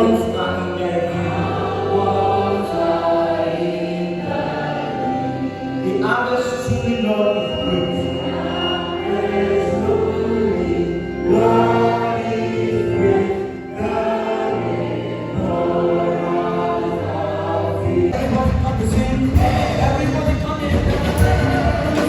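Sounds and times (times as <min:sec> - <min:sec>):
choir singing gospel: 0:00.0 - 0:22.0
instrumental accompaniment: 0:00.0 - 0:22.0.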